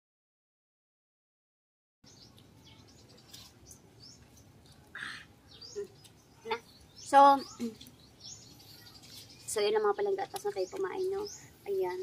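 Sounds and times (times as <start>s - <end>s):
birds chirping faintly: 2.0s - 12.0s.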